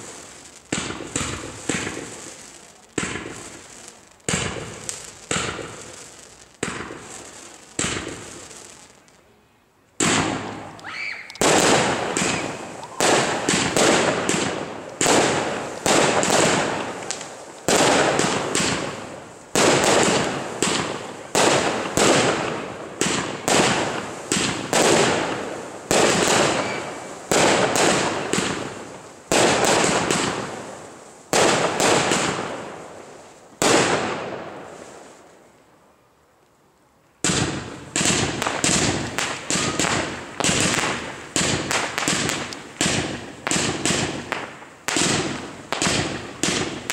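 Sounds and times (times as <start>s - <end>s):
fireworks bangs: 0.0s - 9.2s, 10.0s - 35.4s, 37.2s - 46.9s.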